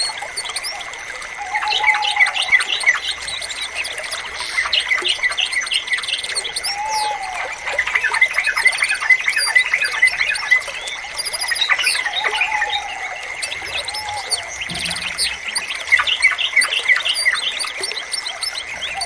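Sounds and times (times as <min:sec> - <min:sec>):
birds chirping and whistling: 0:00.0 - 0:19.0.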